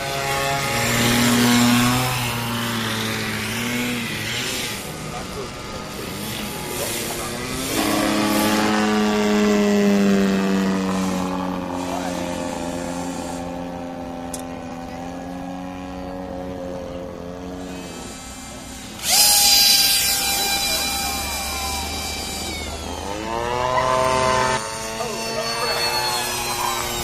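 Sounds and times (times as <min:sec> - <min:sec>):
model airplane motor running: 0:00.0 - 0:27.0
model plane motor high whine: 0:00.0 - 0:27.0.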